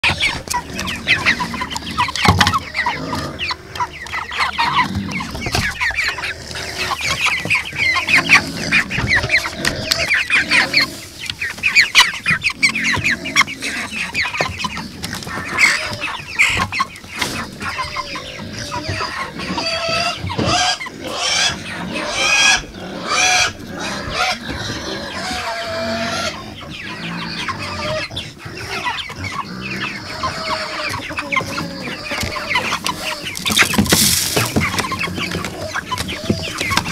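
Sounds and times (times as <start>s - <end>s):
chickens clucking and calling: 0.0s - 36.9s.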